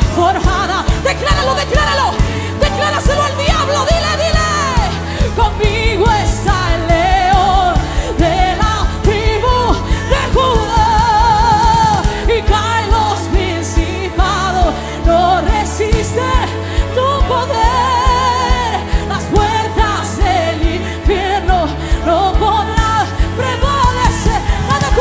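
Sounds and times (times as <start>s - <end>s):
band playing steady beat: 0.0s - 25.0s
woman singing into microphone: 0.0s - 25.0s.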